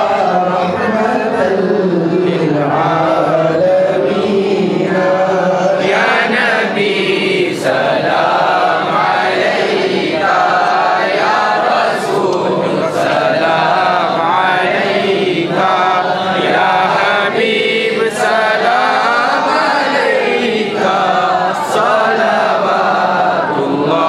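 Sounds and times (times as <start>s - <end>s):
group chanting: 0.0s - 24.0s.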